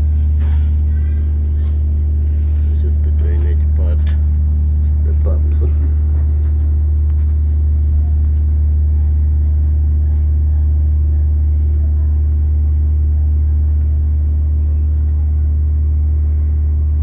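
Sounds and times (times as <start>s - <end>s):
machine motor humming: 0.0s - 17.0s.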